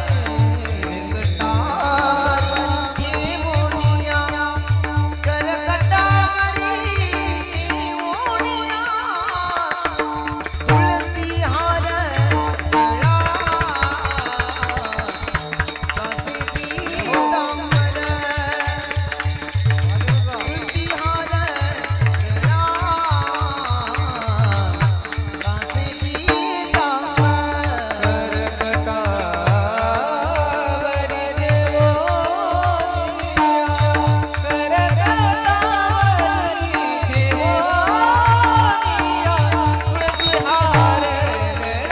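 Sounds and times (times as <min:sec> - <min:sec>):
man singing devotional melody: 0:00.0 - 0:41.9.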